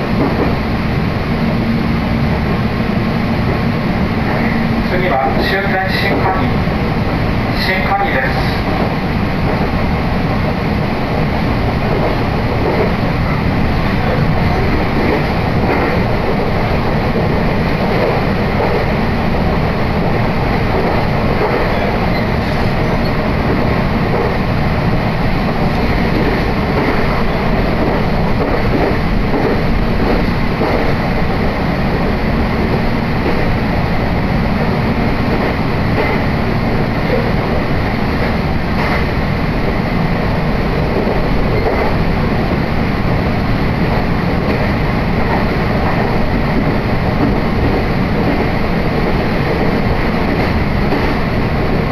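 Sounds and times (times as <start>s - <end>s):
train running on rails: 0.0s - 51.9s.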